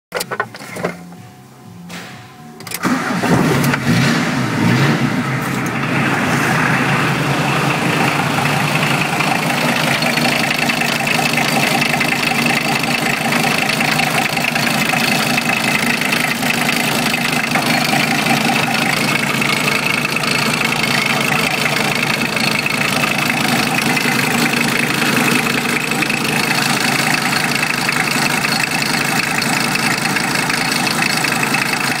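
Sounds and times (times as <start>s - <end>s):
diesel engine idling: 2.8s - 32.0s.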